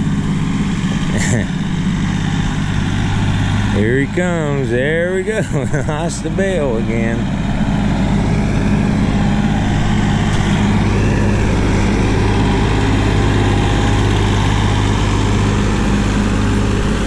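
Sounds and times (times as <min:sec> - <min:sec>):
tractor engine driving past: 0:00.0 - 0:17.0.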